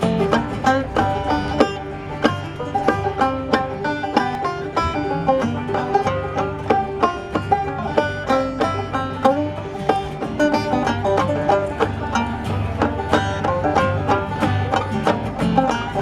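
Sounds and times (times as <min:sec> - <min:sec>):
banjo playing: 0:00.0 - 0:16.0.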